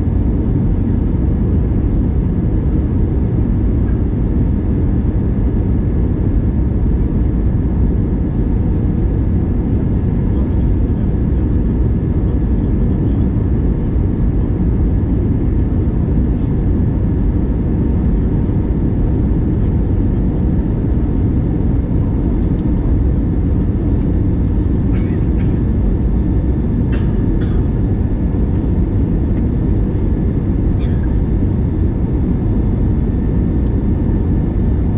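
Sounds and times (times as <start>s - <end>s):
airliner cabin rumble: 0.0s - 34.9s.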